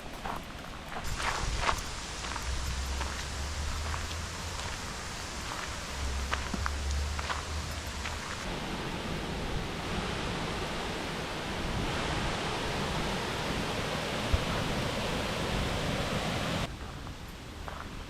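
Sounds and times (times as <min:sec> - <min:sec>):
fast-flowing water rushing: 0:00.7 - 0:16.7.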